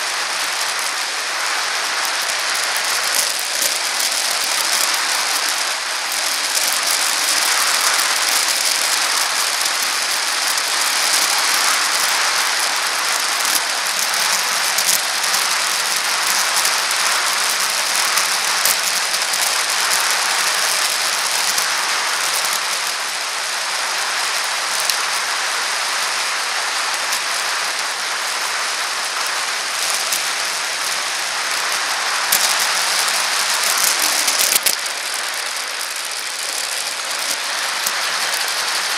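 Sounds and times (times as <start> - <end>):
bicycle rattles and clicks: 0.0 - 38.9
bicycle road and wind noise: 0.0 - 38.9.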